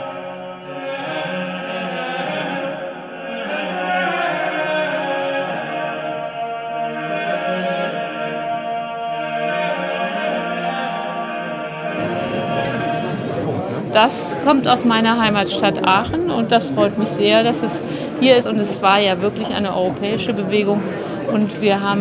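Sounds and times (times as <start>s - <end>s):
choir singing held notes: 0.0s - 22.0s.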